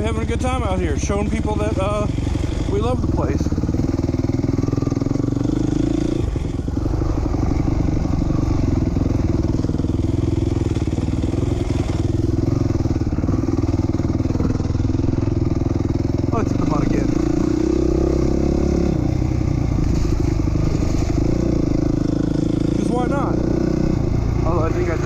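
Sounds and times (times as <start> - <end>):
dirt bike engine running hard: 0.0 - 25.0.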